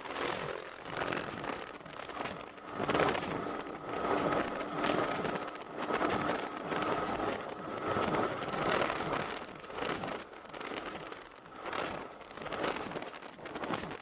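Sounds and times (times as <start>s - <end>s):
motorcycle engine and road noise: 0.0s - 14.0s
wind rushing over microphone: 0.0s - 14.0s.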